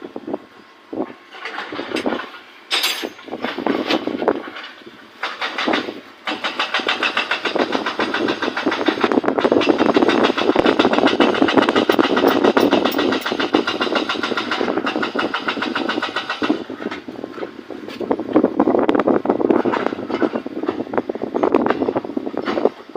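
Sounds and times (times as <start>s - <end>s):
road roller engine running: 0.0s - 22.9s.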